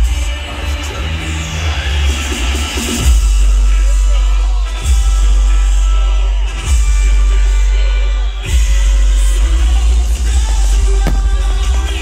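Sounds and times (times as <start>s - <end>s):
loud music from speakers: 0.0s - 10.4s.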